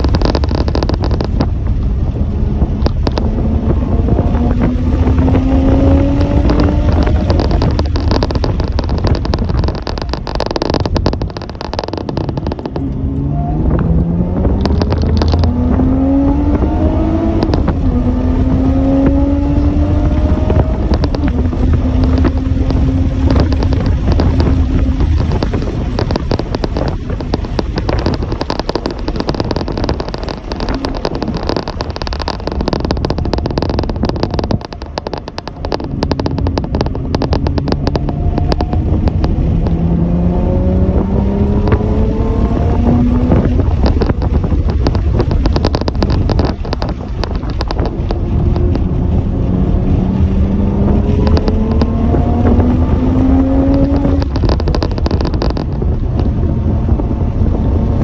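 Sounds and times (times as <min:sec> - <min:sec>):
vehicle engine revving and shifting: 0:00.0 - 0:58.0
wind buffeting microphone: 0:00.0 - 0:58.0.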